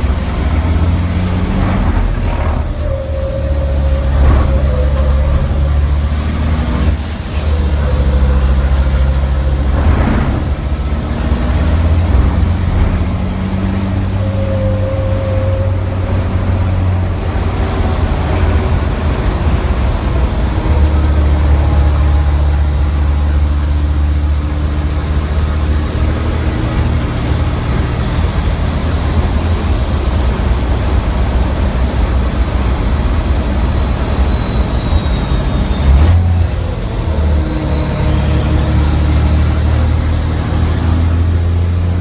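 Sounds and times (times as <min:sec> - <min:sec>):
diesel engine under load: 0:00.0 - 0:42.0
turbo whistle: 0:01.8 - 0:42.0.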